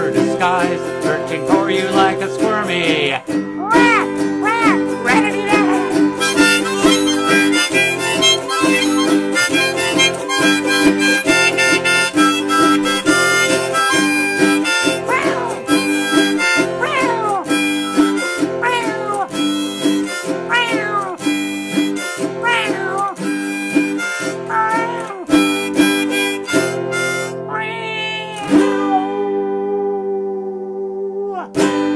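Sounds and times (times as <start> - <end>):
harmonica playing: 0.0 - 29.8
autoharp strumming: 0.0 - 30.9, 31.5 - 31.9.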